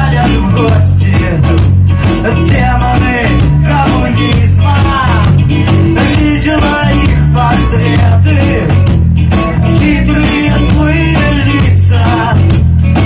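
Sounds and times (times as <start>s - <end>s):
live ska-rock band playing: 0.0s - 13.0s.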